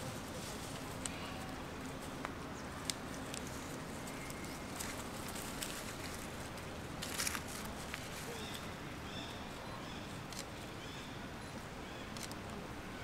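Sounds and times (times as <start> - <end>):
rustling in dry leaves: 0.0 - 13.0.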